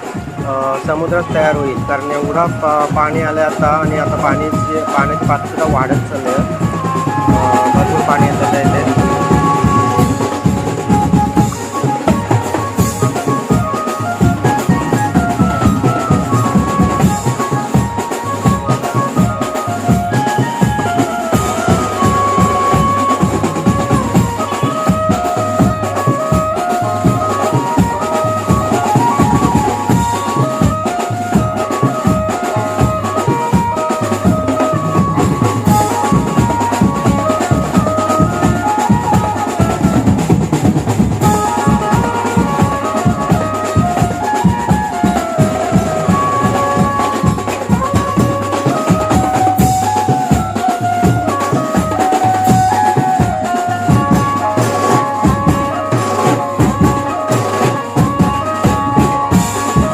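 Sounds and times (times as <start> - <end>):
banjo band music: 0.0 - 59.9.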